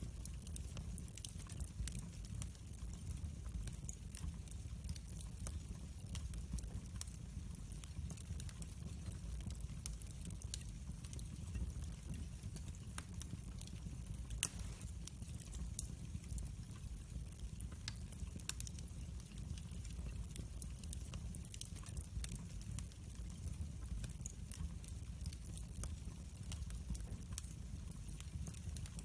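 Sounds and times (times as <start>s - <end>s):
low rumble of flames: 0.0s - 29.0s
wood fire crackling: 0.0s - 29.0s.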